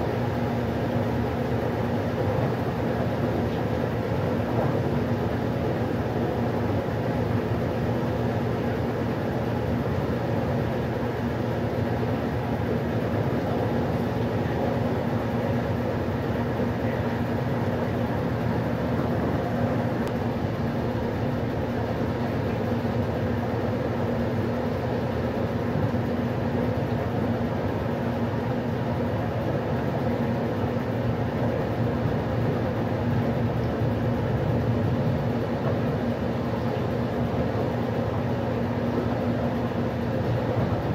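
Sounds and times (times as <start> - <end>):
washing machine running: 0.0 - 40.9.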